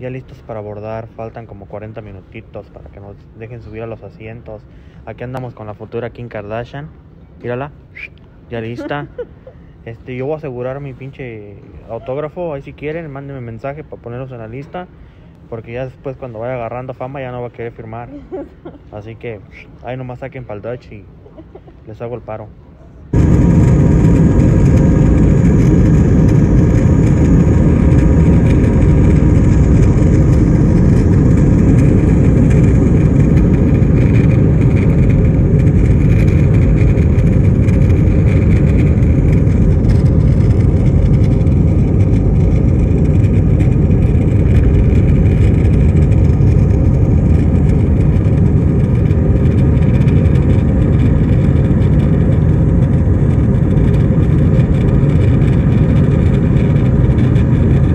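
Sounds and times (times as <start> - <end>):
airliner cabin engine noise: 0.0 - 57.9.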